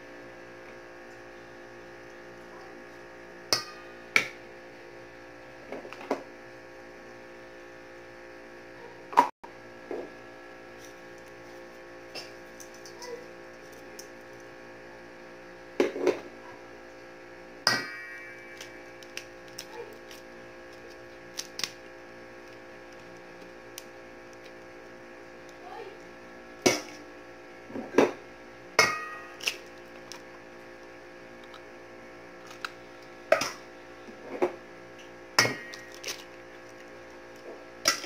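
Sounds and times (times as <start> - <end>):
steady electrical hum: 0.0 - 38.0.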